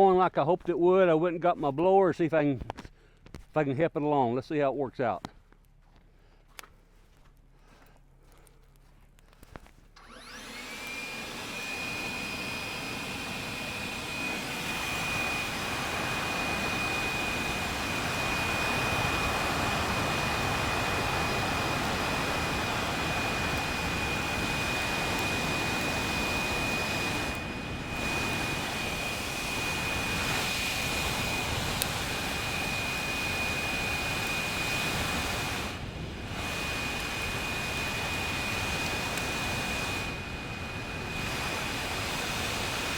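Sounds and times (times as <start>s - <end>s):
leaf blower whine: 5.8s - 42.9s.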